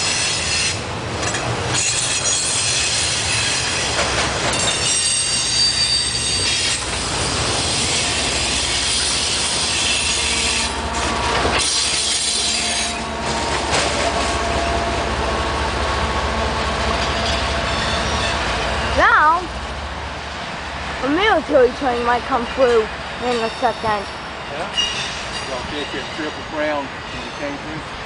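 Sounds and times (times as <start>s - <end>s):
steel wheels squealing: 0.0s - 14.9s, 17.0s - 19.0s, 21.8s - 27.8s
train wheels rumbling on rails: 0.0s - 28.0s.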